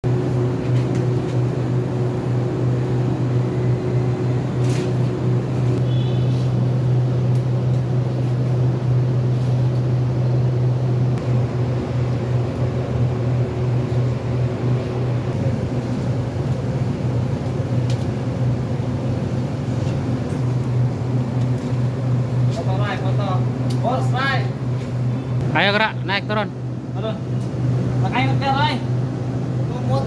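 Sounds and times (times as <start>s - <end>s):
low machine drone: 0.0s - 30.0s.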